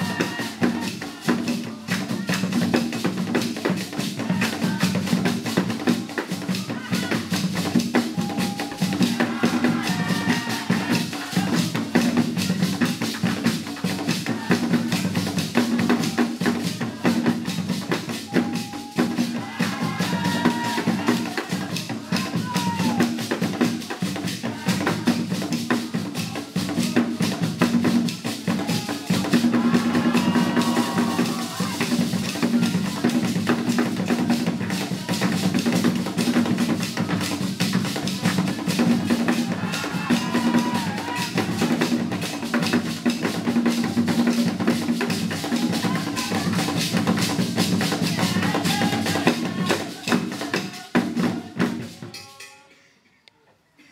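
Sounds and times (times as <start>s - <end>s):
voices: 0.0s - 2.8s, 4.0s - 13.0s, 13.8s - 42.5s, 45.4s - 53.9s
drums in fast rhythm: 0.0s - 52.6s.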